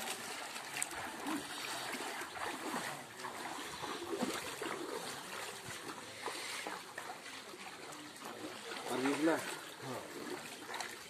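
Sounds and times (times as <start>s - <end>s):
feet wading through water: 0.0s - 11.0s
floodwater splashing and sloshing: 0.0s - 11.0s
van driving through water: 0.0s - 11.0s.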